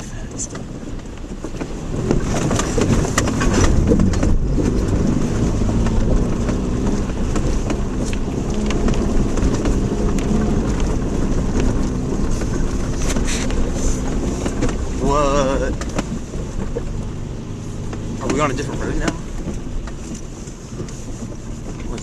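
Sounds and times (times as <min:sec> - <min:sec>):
car engine running: 0:00.0 - 0:22.0
low road noise: 0:00.0 - 0:22.0
car body knocks and rattles: 0:00.4 - 0:21.9.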